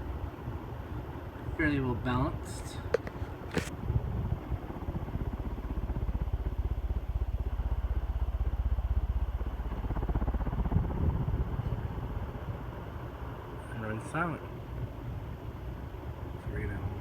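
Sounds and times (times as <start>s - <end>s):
ceiling fan air rush: 0.0s - 17.0s.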